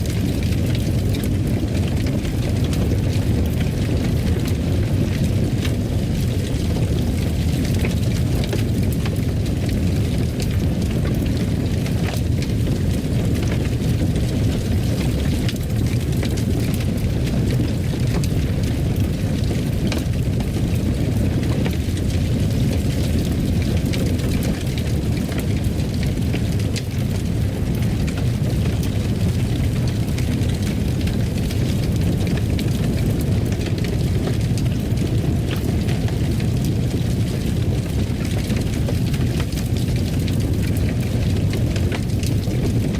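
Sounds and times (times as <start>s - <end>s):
fire crackling and popping: 0.0s - 42.9s
fire roaring: 0.0s - 42.9s.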